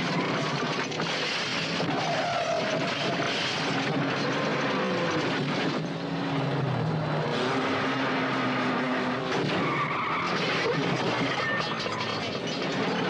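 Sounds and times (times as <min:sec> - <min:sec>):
car engine running hard: 0:00.0 - 0:13.0
road and tyre noise: 0:00.0 - 0:13.0.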